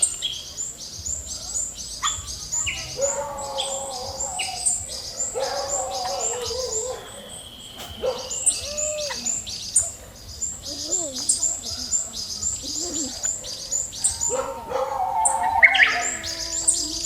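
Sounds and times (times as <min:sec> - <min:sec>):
low wavering bird calls: 0:00.0 - 0:17.0.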